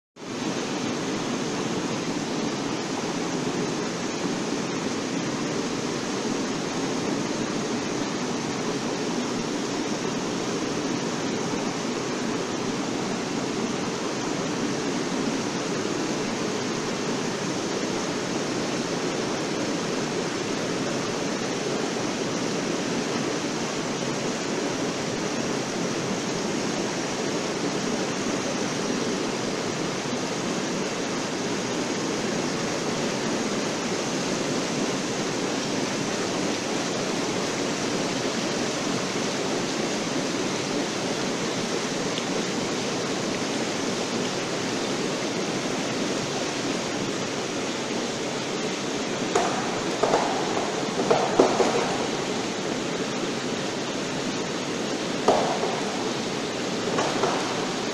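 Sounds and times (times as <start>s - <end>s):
water spraying from nozzles: 0.2s - 57.9s.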